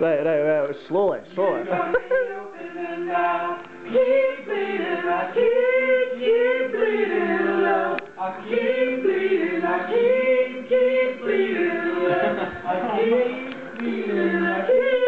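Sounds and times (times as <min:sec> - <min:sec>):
voices singing long notes: 0:01.2 - 0:15.0.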